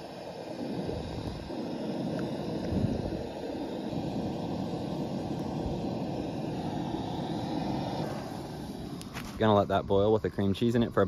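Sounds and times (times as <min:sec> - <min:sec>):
gas stove burner roaring: 0:00.0 - 0:10.9.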